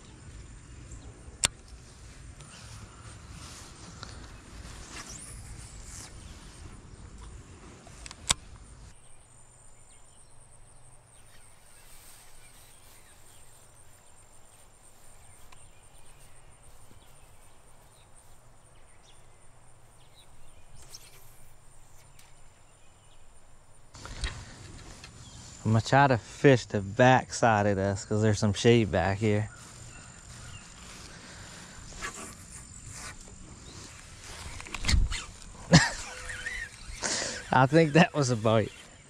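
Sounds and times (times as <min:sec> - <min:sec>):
rural outdoor background: 0:00.0 - 0:39.0.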